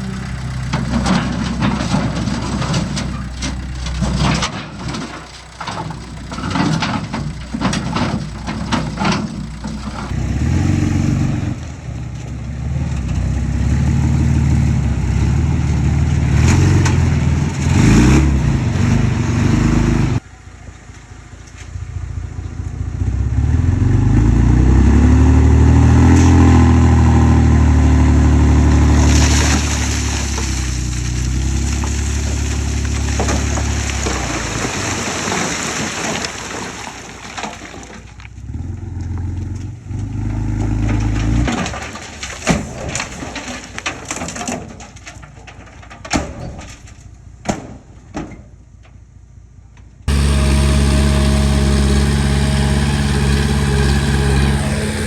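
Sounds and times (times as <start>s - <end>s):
bulldozer diesel engine working: 0.0s - 44.2s, 50.1s - 55.0s.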